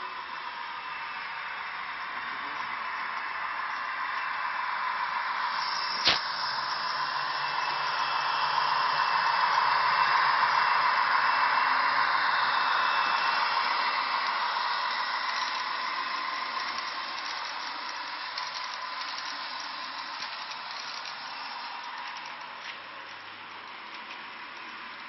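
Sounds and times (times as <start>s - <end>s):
model train whirring on rails: 0.0s - 25.0s.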